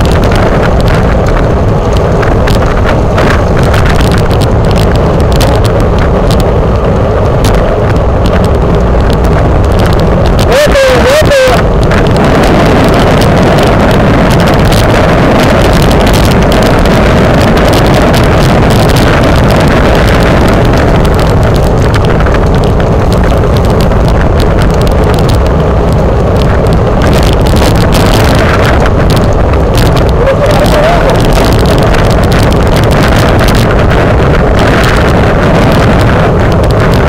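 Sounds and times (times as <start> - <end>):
wind rush on microphone: 0.0 - 37.0.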